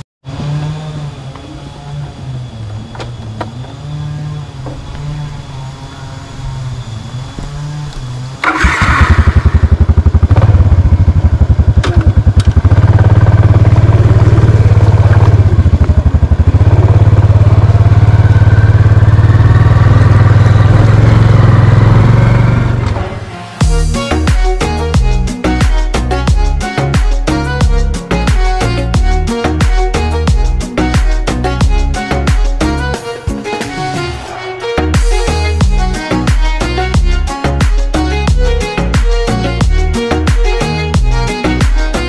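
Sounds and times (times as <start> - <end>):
scooter engine idling and revving: 0.2 - 42.0.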